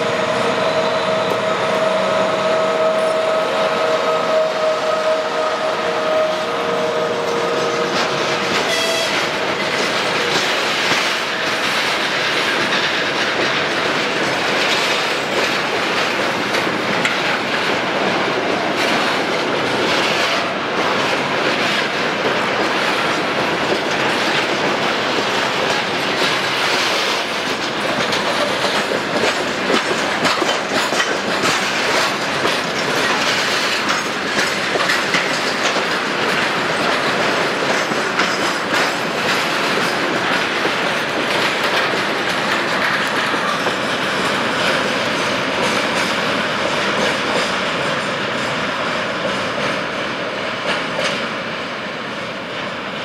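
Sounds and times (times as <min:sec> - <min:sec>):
train wheels rumbling on rail: 0:00.0 - 0:53.0
wheels clacking over rail joints: 0:05.4 - 0:51.6.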